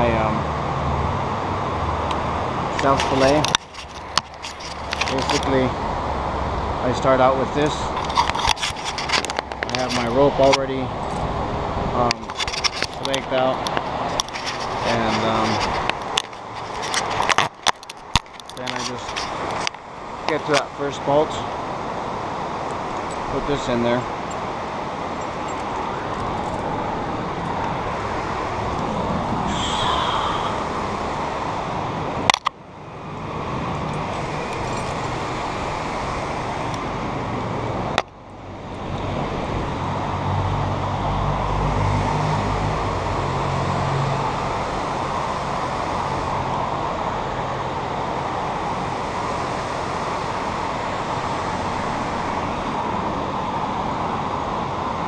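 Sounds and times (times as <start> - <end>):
white-water river rushing: 0.0 - 55.0
wind gusts on microphone: 0.0 - 55.0.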